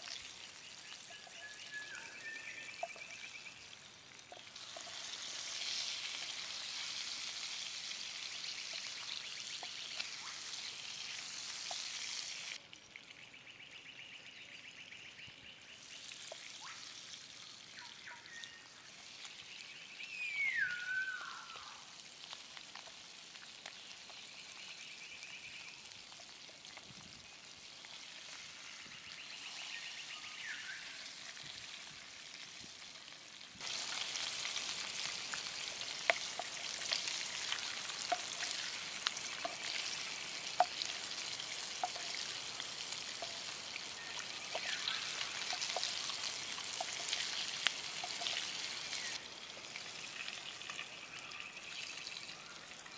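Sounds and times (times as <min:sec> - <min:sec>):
steak sizzling in a frying pan: 0:02.8 - 0:12.6, 0:15.8 - 0:24.8, 0:25.8 - 0:29.7, 0:30.4 - 0:51.1.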